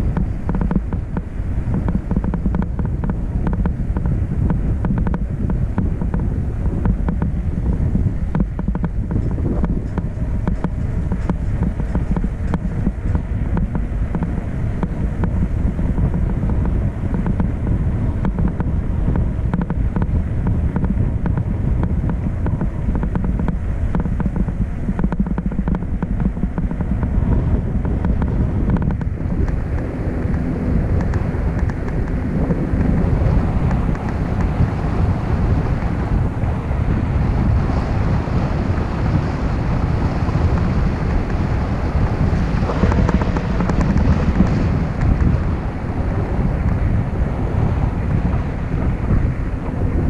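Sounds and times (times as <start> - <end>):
engine and road rumble: 0.0 - 50.0
wind buffeting microphone: 0.0 - 50.0.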